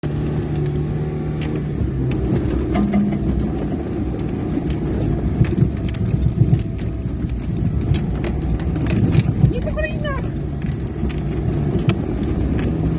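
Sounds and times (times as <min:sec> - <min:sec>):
vehicle engine running: 0:00.0 - 0:12.9
knocks and rattles: 0:02.1 - 0:12.9.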